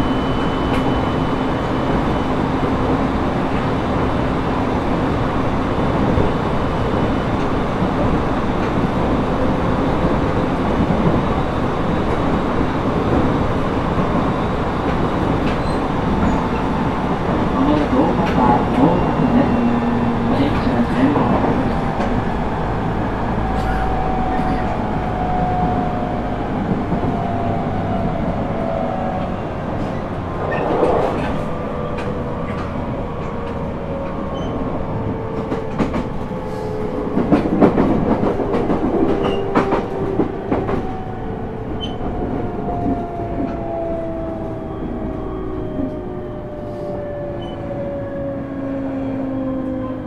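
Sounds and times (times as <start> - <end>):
train wheel rumble: 0.0 - 50.0.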